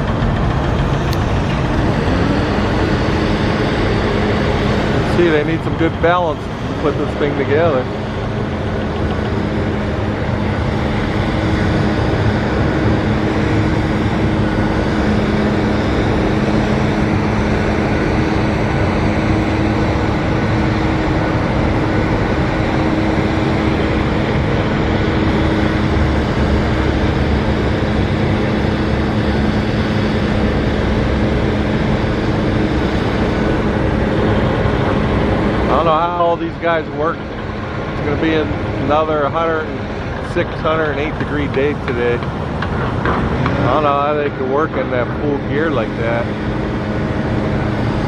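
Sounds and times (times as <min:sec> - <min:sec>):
machine humming: 0:00.0 - 0:48.0
rushing noise: 0:00.0 - 0:48.0.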